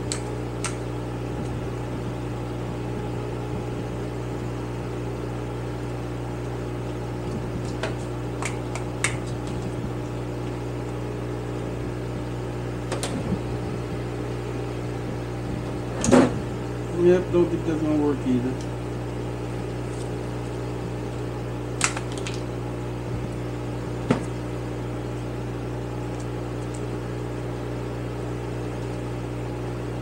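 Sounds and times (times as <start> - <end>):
electric fan hum: 0.0 - 30.0.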